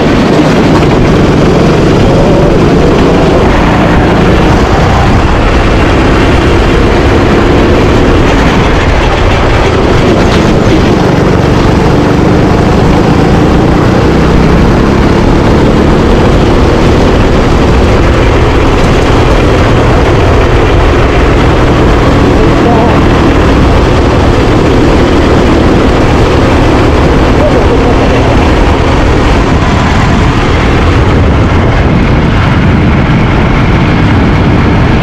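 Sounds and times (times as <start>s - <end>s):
kart engine droning: 0.0s - 35.0s.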